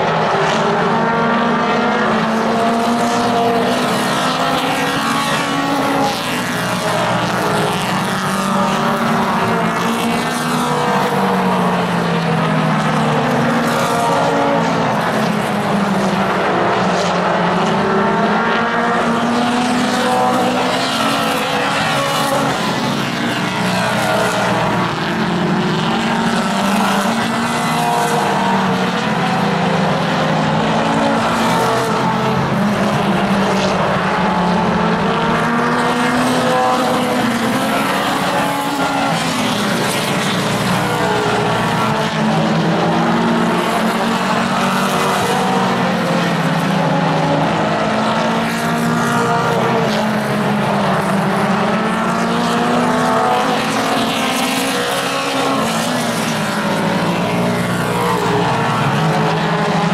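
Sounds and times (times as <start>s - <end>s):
race car engines: 0.0s - 59.9s.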